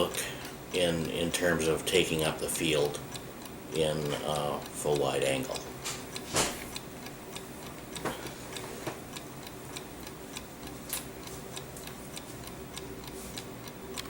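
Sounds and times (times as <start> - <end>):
clock ticking: 0.0 - 14.0.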